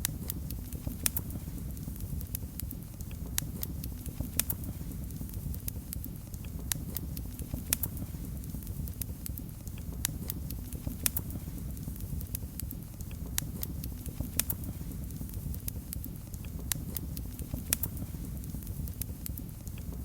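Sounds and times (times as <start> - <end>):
fire crackling and popping: 0.0 - 20.0
flames rumbling: 0.0 - 20.0.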